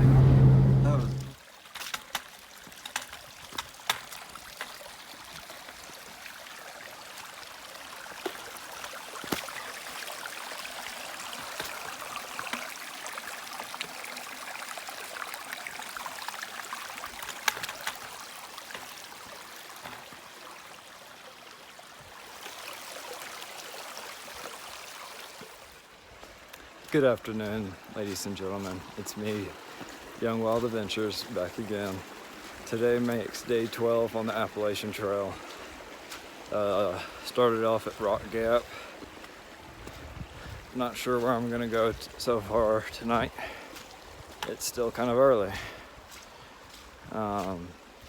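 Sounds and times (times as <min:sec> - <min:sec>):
stream trickling: 0:00.0 - 0:48.0.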